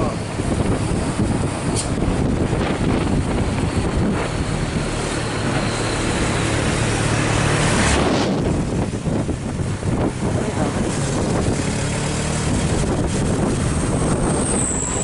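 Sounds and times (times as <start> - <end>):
truck engine under load: 0.0 - 15.0
wind buffeting microphone: 0.0 - 15.0.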